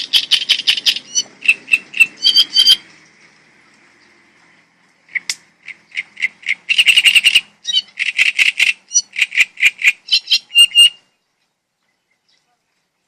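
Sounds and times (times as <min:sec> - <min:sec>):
bird singing: 0:00.0 - 0:09.2, 0:09.9 - 0:13.0.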